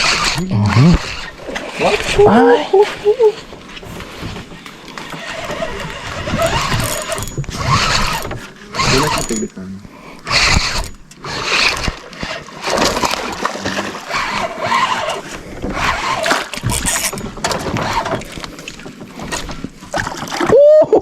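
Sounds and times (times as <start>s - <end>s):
water splashing against boat: 0.0s - 21.0s.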